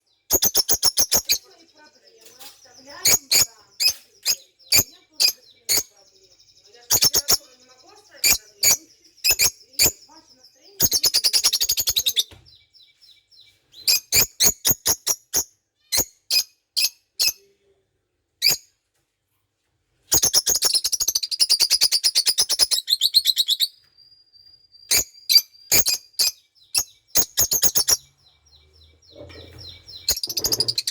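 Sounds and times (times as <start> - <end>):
bird chirping: 0.0 - 17.8, 18.4 - 18.8, 20.1 - 30.9.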